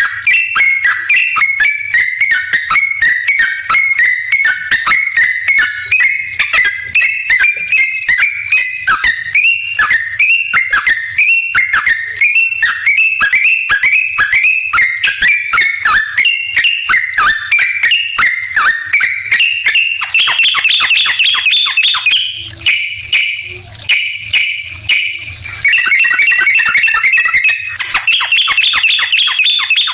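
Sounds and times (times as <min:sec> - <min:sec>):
bulbul chattering song: 0:00.0 - 0:29.9.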